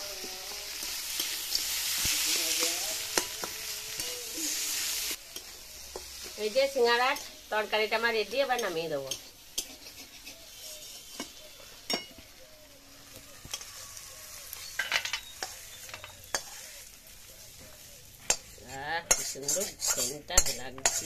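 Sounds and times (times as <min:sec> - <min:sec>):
metal spatula scraping pan: 0:00.0 - 0:12.3, 0:13.4 - 0:21.0
hot pan sizzling: 0:00.0 - 0:21.0.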